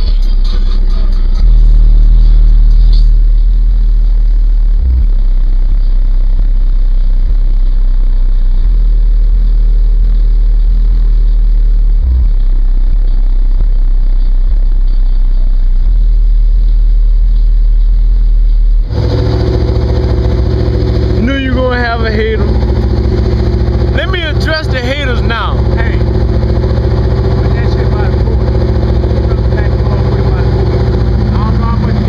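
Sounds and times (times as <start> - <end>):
loud bass music from subwoofers: 0.0 - 32.0.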